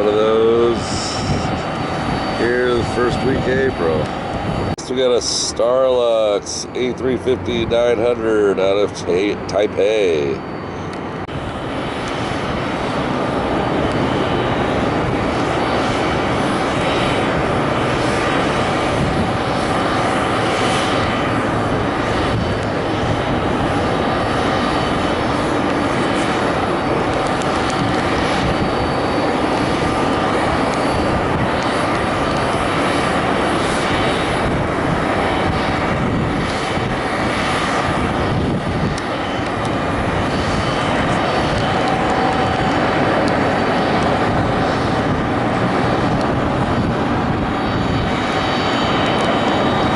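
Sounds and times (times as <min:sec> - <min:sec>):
jet engines roaring: 0:00.0 - 0:49.9.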